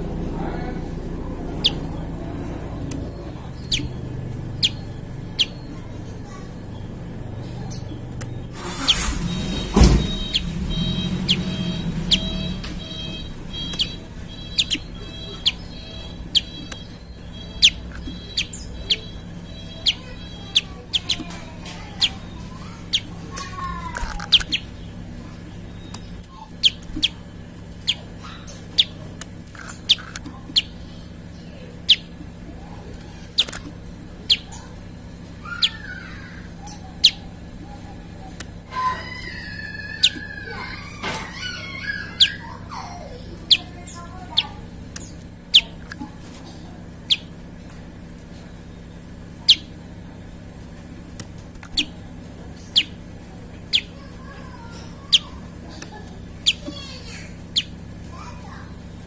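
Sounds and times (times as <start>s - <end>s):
bird chirping: 0.0s - 59.0s
steady low hum: 0.0s - 59.0s.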